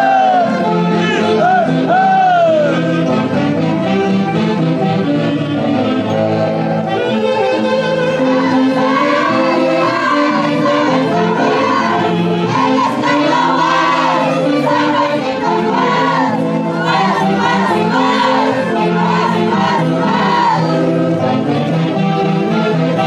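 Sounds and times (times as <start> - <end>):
saxophone and brass dance orchestra: 0.0 - 23.0.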